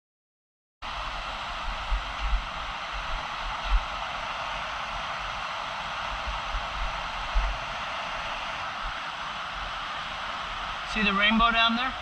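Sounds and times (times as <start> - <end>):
waterfall roaring: 0.8 - 12.0.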